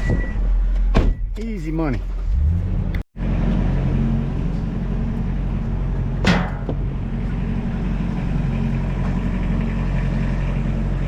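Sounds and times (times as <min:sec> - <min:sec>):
engine running: 0:01.9 - 0:11.0.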